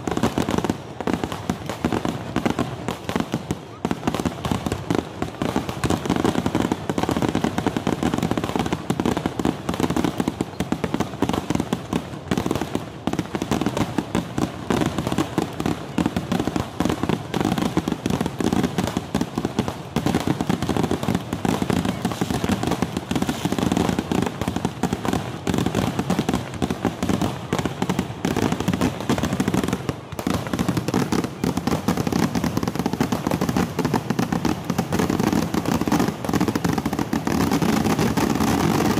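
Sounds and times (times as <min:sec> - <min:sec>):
fireworks rapid bangs and crackles: 0:00.0 - 0:38.9.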